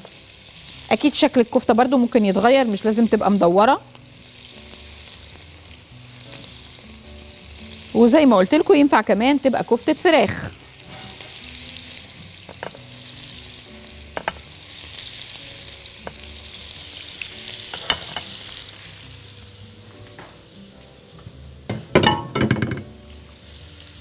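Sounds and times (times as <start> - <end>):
meat sizzling in a pan: 0.0 - 24.0.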